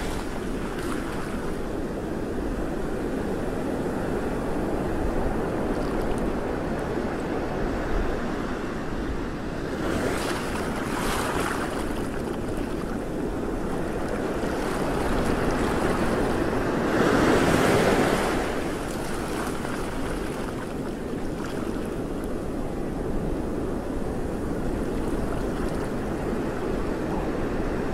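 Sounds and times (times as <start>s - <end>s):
choppy sea waves sloshing: 0.0s - 27.9s
wind buffeting microphone: 0.0s - 27.9s.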